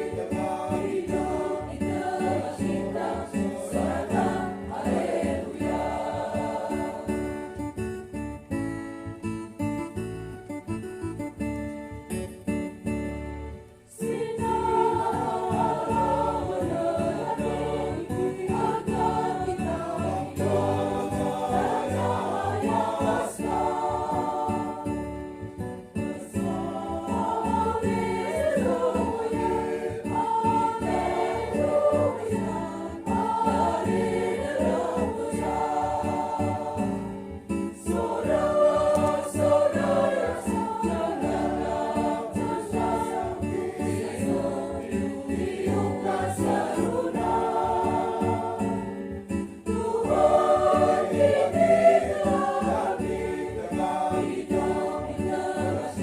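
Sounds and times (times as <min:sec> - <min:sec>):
choir singing a hymn: 0:00.0 - 0:07.9, 0:13.9 - 0:56.0.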